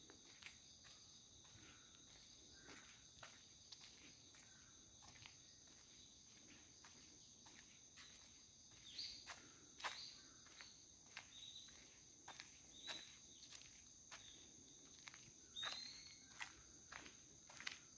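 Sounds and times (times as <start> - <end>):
high-pitched insect song: 0.0 - 17.9.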